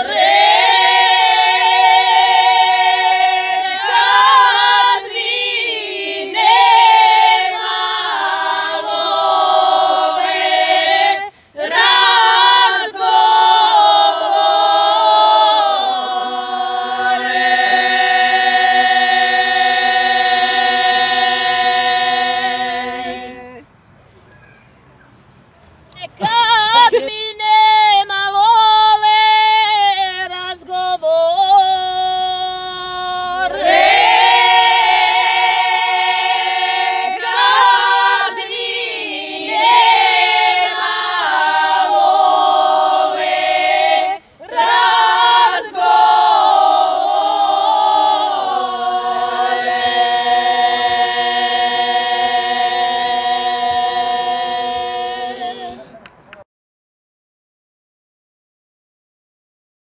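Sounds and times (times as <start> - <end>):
women singing unaccompanied: 0.0 - 23.6, 26.0 - 56.0.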